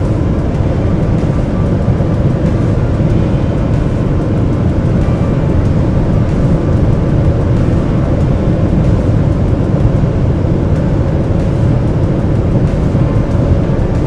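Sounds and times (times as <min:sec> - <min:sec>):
car engine drone: 0:00.0 - 0:14.0
wind and tyre roar: 0:00.0 - 0:14.0.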